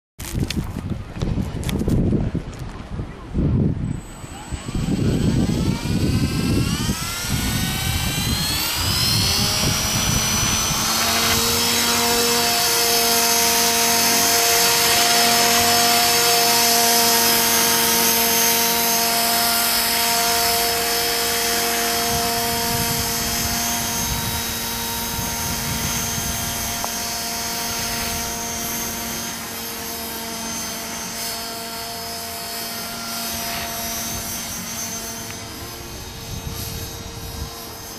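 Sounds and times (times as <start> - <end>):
wind buffeting microphone: 0.2 - 30.0, 33.4 - 37.9
rc helicopter motor whine: 3.2 - 37.9.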